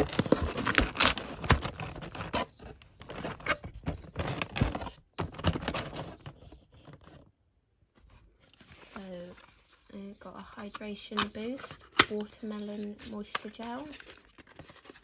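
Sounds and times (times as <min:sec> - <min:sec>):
cardboard packaging rustling: 0:00.0 - 0:07.3, 0:08.0 - 0:09.9, 0:11.2 - 0:15.0.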